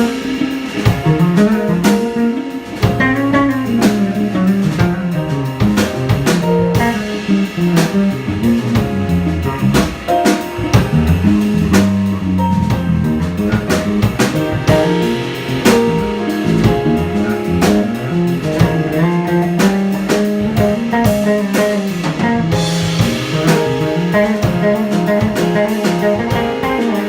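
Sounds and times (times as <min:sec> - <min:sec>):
drum kit cymbals: 0:00.0 - 0:27.0
electric guitar: 0:00.0 - 0:27.0
piano: 0:00.0 - 0:27.0
walking bass line: 0:00.0 - 0:27.0.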